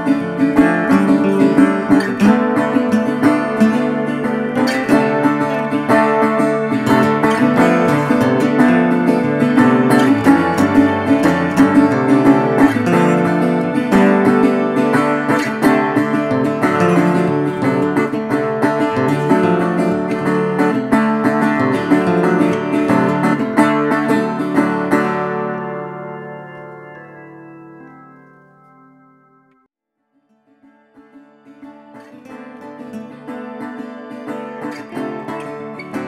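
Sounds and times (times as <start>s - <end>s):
plucked acoustic guitar: 0.0s - 29.7s, 30.3s - 36.0s.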